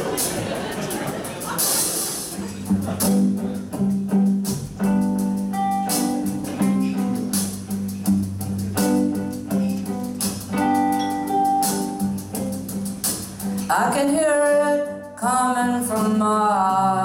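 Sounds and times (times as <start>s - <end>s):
steady drum beat: 0.0s - 14.2s
band playing slow instrumental: 0.0s - 17.0s
guitars: 0.0s - 17.0s.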